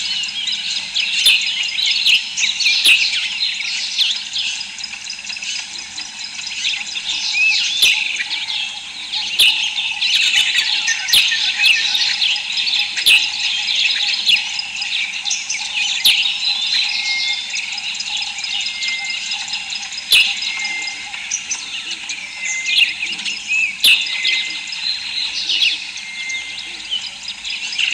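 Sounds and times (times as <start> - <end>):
small birds chirping and twittering: 0.0 - 27.9.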